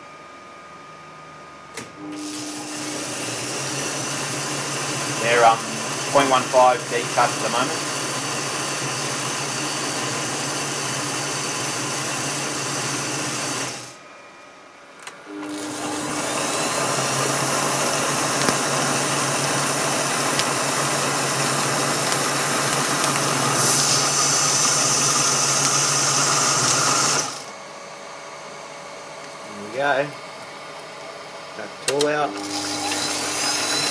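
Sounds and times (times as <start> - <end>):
lathe motor hum and whine: 0.0 - 33.9.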